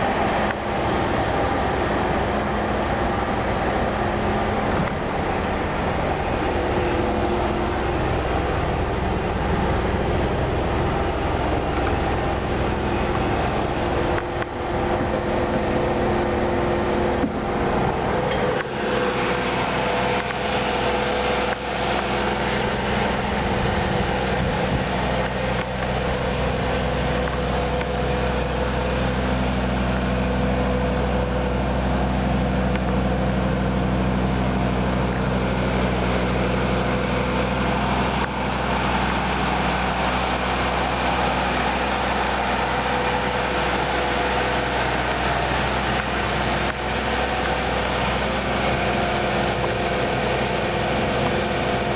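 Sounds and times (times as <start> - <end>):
bus engine running: 0.0 - 51.9.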